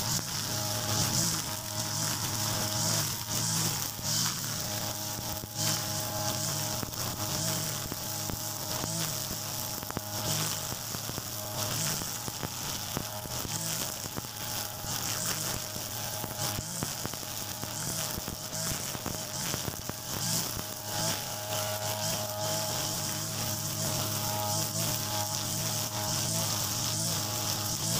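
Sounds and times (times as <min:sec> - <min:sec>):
brush cutter running: 0:00.0 - 0:27.9
trimmer line hissing through grass: 0:00.0 - 0:27.9.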